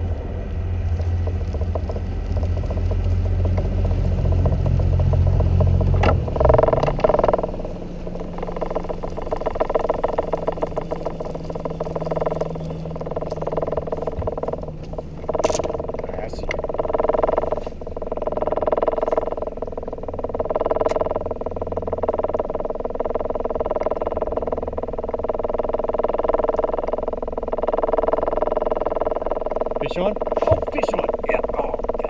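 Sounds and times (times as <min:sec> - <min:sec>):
boat motor running: 0:00.0 - 0:32.0.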